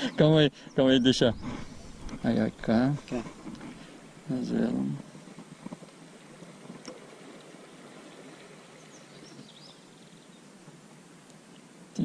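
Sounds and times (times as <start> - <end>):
flowing water hiss: 0.0 - 12.0.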